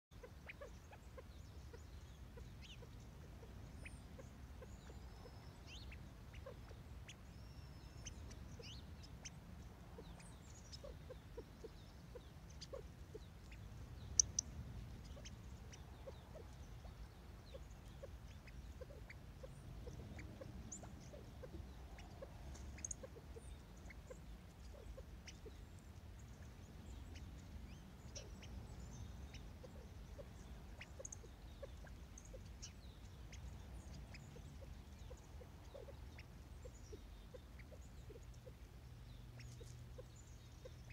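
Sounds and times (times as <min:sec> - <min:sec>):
faint bird chirps: 0:00.1 - 0:40.9.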